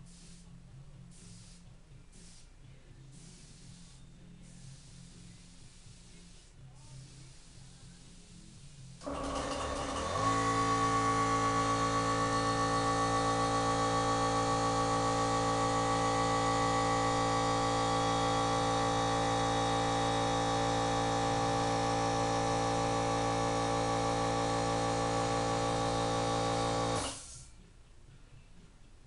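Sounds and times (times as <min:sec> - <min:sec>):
air compressor running: 0:01.1 - 0:27.5.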